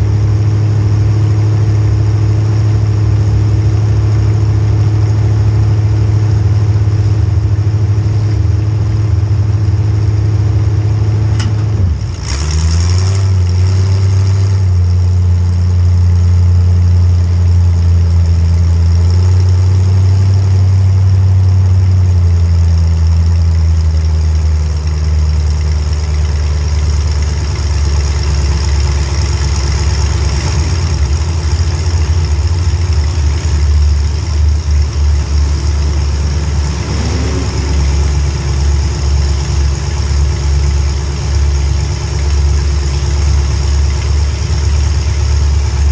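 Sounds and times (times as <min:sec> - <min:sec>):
car engine running loud: 0:00.0 - 0:45.9.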